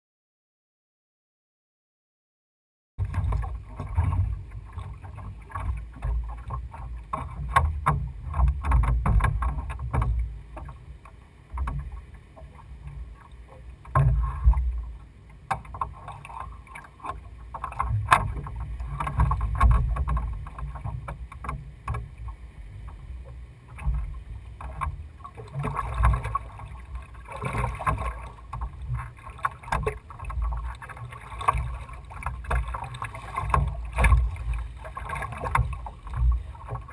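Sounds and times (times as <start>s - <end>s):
oars knocking in oarlocks: 3.0s - 10.8s, 13.8s - 14.9s, 15.5s - 23.0s, 23.7s - 36.9s
water washing against hull: 3.0s - 36.9s.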